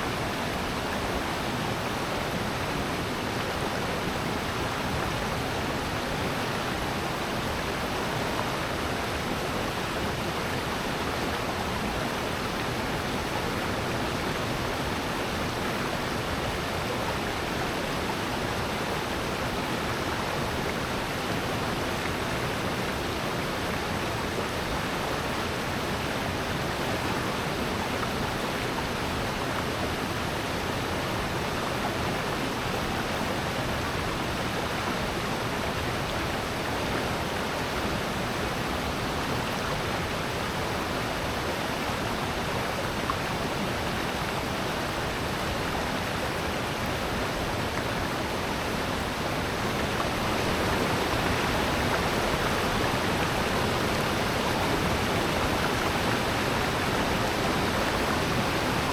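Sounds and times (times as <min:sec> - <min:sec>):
stream and waterfall roaring: 0:00.0 - 0:58.9.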